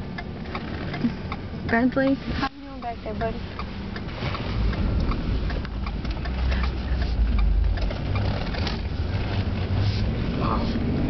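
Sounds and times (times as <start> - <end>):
car engine rumble: 0.0 - 11.0
road noise inside car: 0.0 - 11.0.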